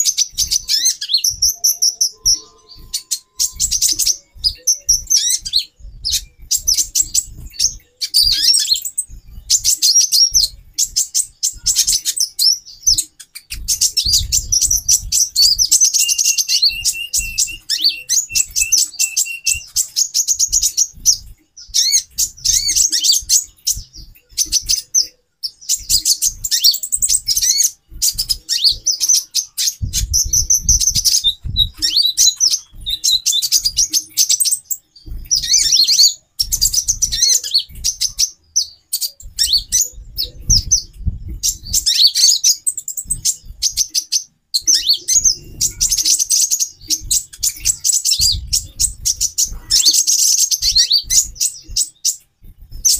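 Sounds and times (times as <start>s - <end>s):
low thumps: 0.0s - 52.9s
sunbirds chirping: 0.0s - 52.9s.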